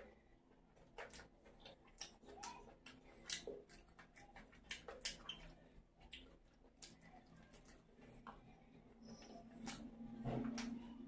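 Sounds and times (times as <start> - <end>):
wet chewing: 0.0 - 11.0
lip smacks: 0.9 - 10.8.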